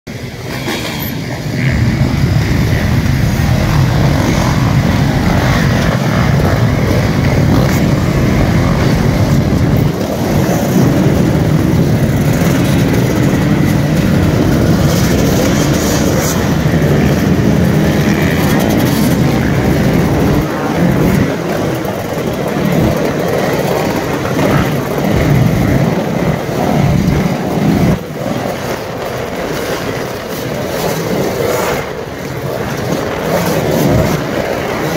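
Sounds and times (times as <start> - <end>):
dirt bike engines running: 0.1 - 34.9.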